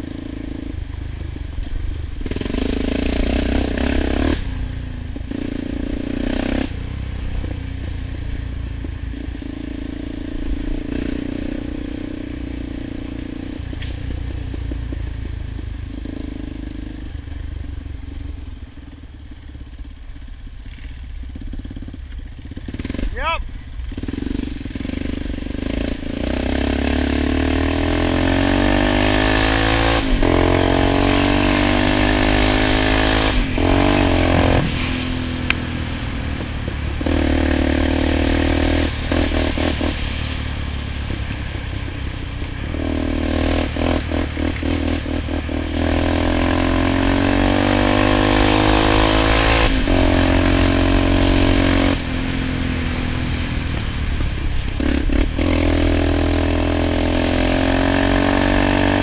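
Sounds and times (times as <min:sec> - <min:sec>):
atv engine accelerating: 0:00.0 - 0:59.0.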